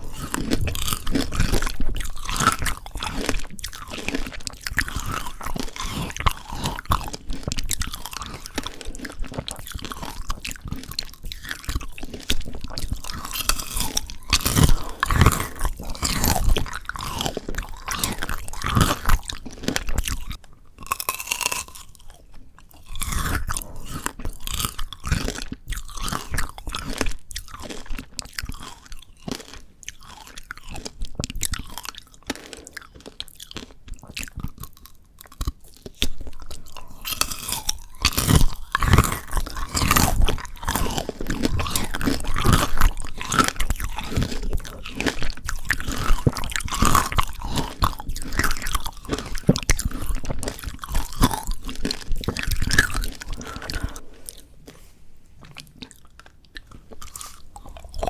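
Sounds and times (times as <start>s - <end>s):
crunchy candy-coated grapes chewing: 0.0s - 58.0s.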